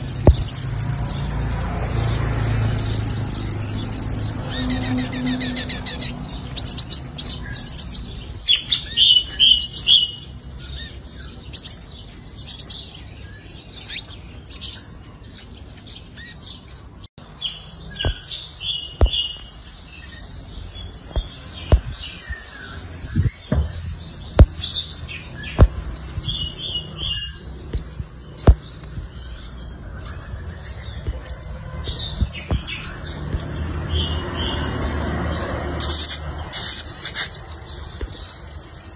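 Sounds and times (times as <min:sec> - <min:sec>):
bird twittering chirps and trills: 0:00.0 - 0:38.9.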